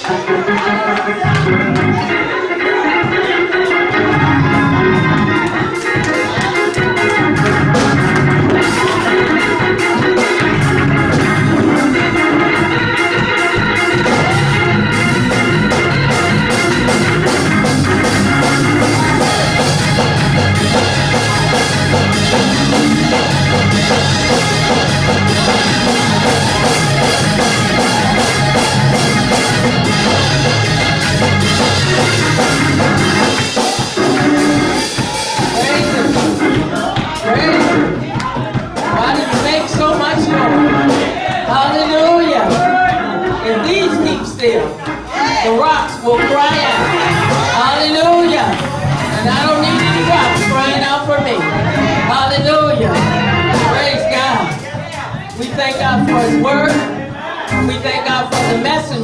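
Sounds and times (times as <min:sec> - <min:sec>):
church organ music: 0:00.0 - 0:38.1, 0:39.2 - 0:45.1, 0:45.9 - 0:54.7, 0:55.4 - 0:58.8
rhythmic percussive hits: 0:00.0 - 0:59.0.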